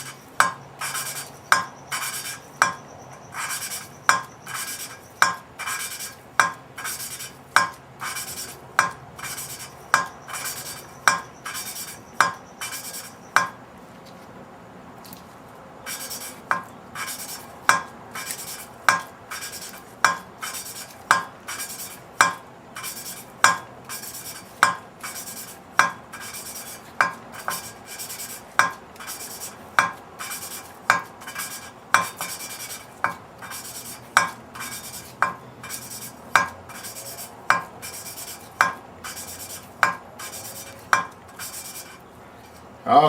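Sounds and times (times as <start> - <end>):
gritty valve lapping rasp: 0.0 - 13.5, 15.9 - 42.6.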